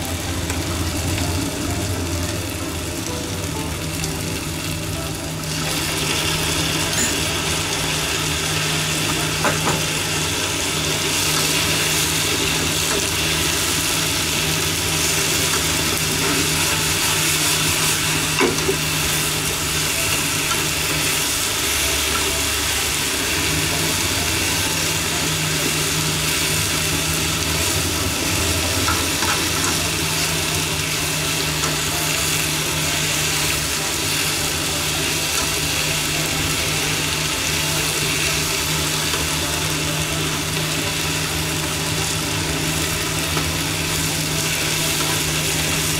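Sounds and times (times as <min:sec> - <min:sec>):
vegetables sizzling in a frying pan: 0:00.0 - 0:45.9.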